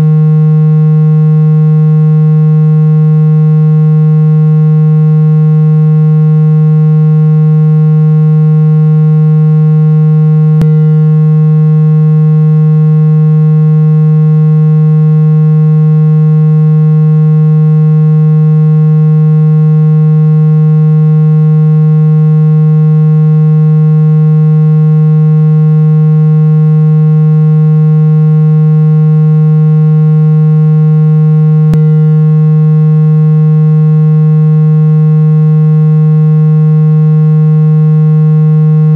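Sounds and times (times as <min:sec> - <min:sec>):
low electronic hum from phone: 0:00.0 - 0:38.9.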